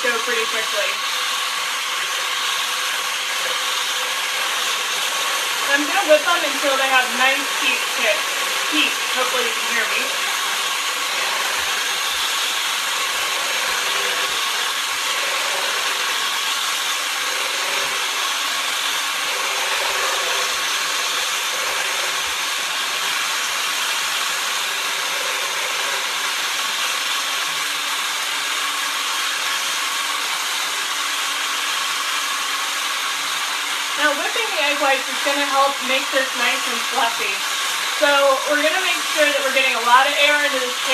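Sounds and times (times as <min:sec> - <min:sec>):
electric hand mixer whipping: 0:00.0 - 0:40.9.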